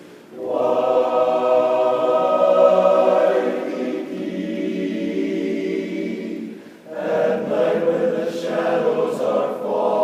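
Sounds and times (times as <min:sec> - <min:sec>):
chorus singing held chords: 0:00.0 - 0:10.0.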